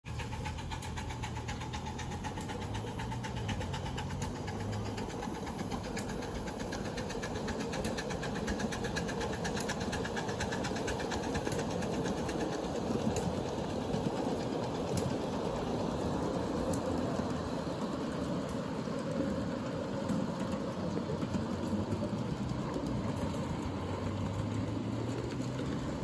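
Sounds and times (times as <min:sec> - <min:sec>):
model train running: 0:00.0 - 0:26.0
wheels clicking on track: 0:00.0 - 0:26.0.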